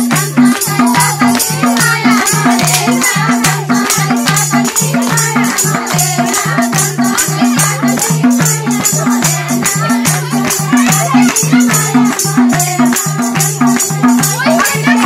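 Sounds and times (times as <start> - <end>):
hand drum beating: 0.0 - 15.0.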